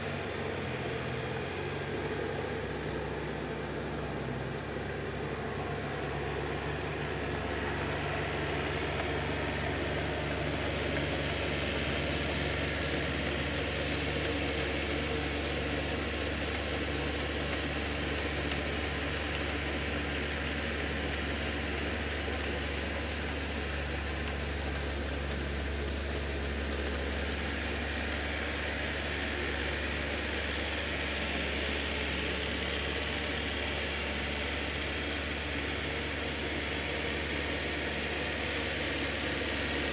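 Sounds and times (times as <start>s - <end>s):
tractor engines humming: 0.0s - 39.9s.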